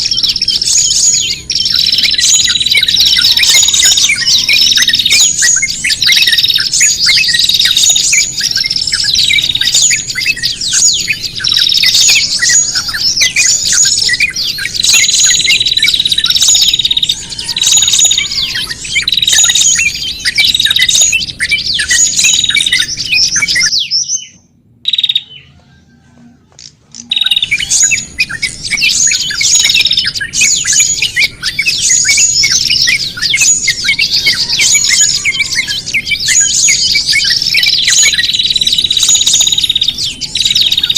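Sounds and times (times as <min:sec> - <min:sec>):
songbirds chirping and chattering: 0:00.0 - 0:40.9.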